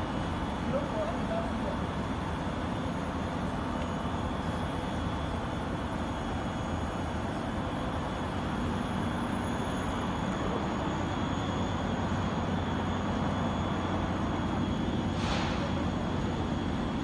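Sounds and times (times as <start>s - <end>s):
factory machinery running: 0.0s - 17.0s.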